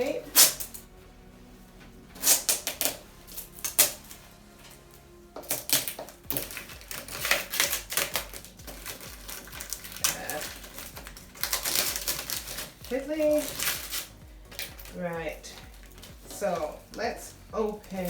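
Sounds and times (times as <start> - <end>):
tape peeling off cardboard: 0.3 - 0.9, 2.1 - 17.0.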